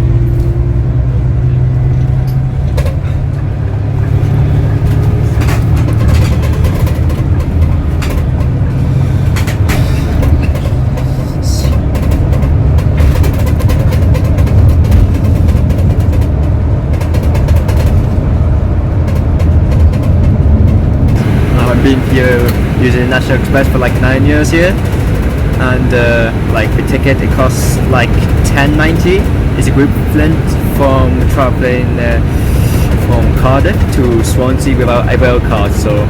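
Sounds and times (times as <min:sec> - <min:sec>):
coach engine drone: 0:00.0 - 0:36.0.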